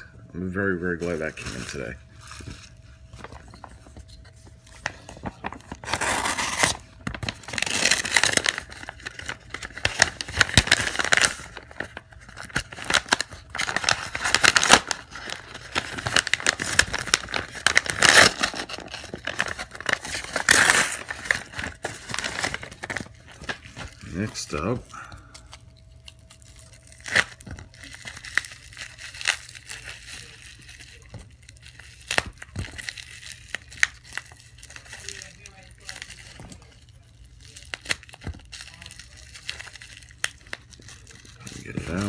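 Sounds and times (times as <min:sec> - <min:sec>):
cardboard packaging tearing: 0:01.0 - 0:42.0.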